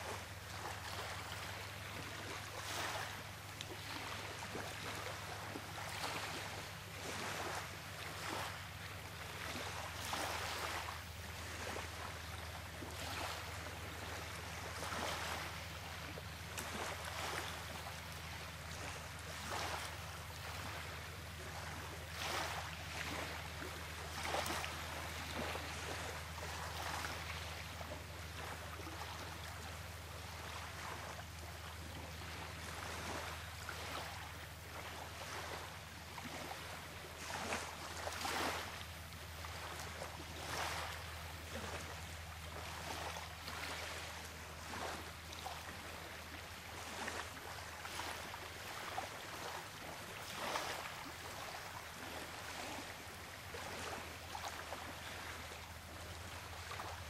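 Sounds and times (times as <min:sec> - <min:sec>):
small waves washing: 0:00.0 - 0:57.0.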